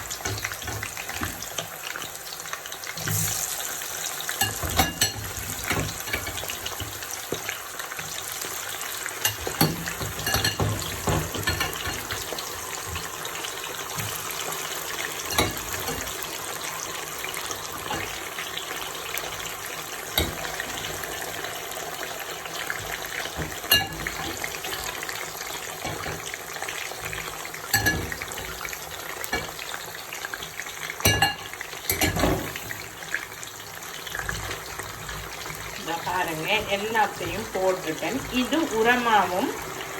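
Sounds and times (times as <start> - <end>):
food deep-frying in hot oil: 0.0 - 39.9.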